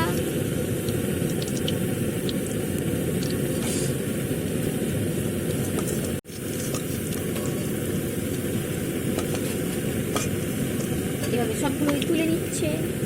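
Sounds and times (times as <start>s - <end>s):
food deep-frying in hot oil: 0.0s - 12.9s.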